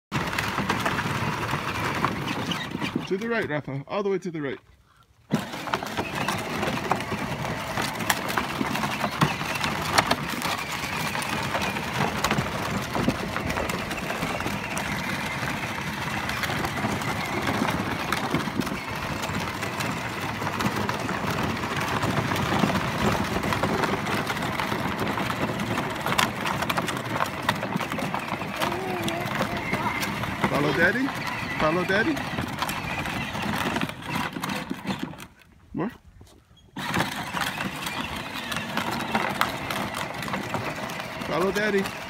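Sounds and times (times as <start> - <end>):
plastic wheels rolling over dirt: 0.1 - 42.0.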